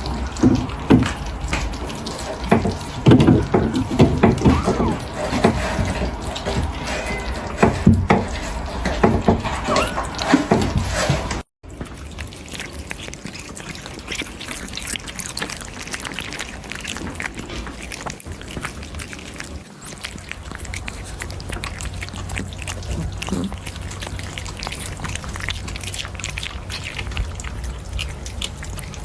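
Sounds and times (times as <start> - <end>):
kittens chewing and licking: 0.0 - 29.0.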